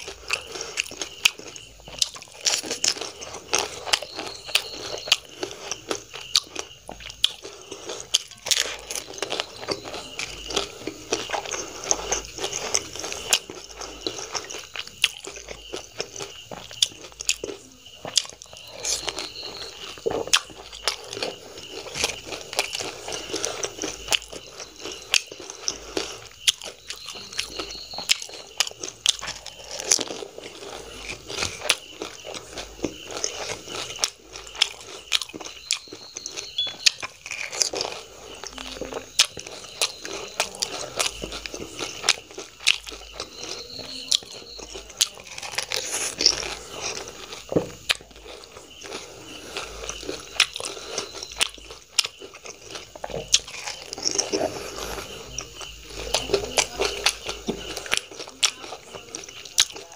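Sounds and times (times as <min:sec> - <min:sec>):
crunching fried shells: 0:00.0 - 0:59.9
wet chewing: 0:00.0 - 0:59.9.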